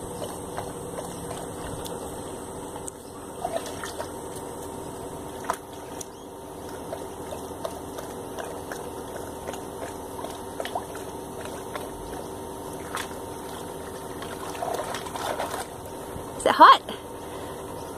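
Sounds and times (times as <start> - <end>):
dog splashing in water: 0.0 - 16.2
steady low hum: 0.0 - 17.9.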